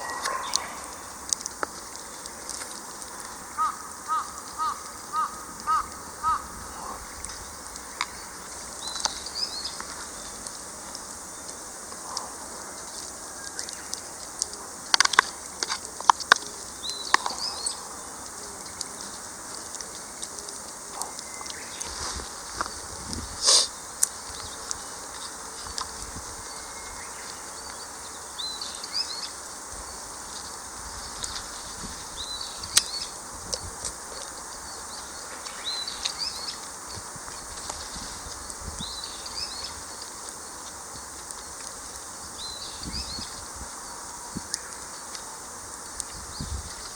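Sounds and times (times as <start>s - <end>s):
campfire crackling: 0.0s - 46.9s
insect hum: 0.0s - 46.9s
outdoor hiss: 0.0s - 46.9s
small birds chirping: 0.0s - 46.9s
songbird singing: 0.0s - 46.9s.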